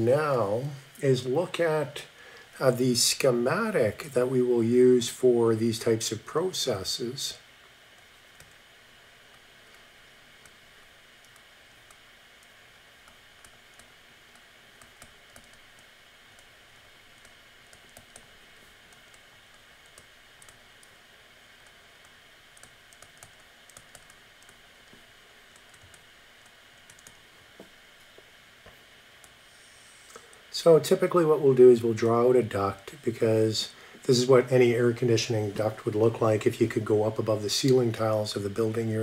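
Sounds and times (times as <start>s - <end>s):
steady background hiss: 0.0s - 39.0s.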